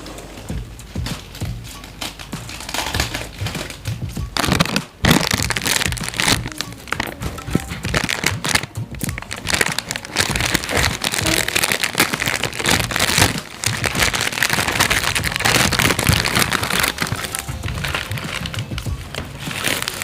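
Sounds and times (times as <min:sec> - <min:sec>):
background music: 0:00.0 - 0:20.0
slime crackling and popping: 0:02.0 - 0:20.0.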